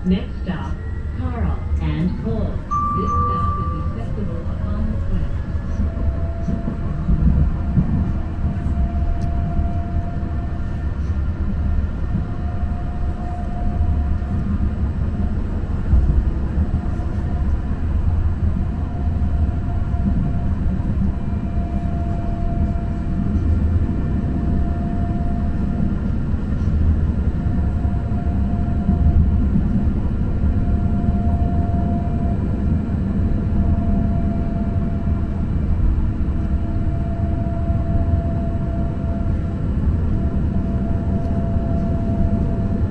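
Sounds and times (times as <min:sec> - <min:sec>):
light-rail car rumbling on track: 0:00.0 - 0:42.9
train whine: 0:00.0 - 0:42.9.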